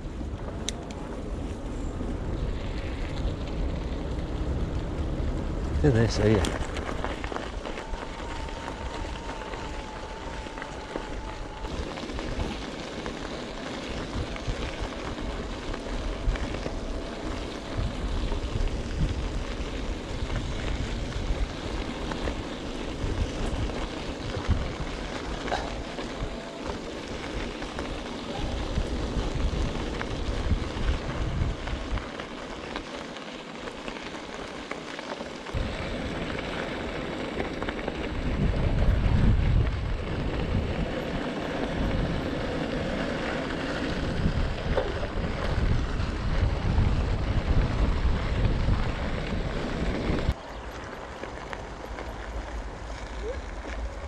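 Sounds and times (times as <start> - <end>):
wind buffeting microphone: 0.0 - 32.8, 35.5 - 54.0
tyres rolling on gravel: 0.0 - 54.0.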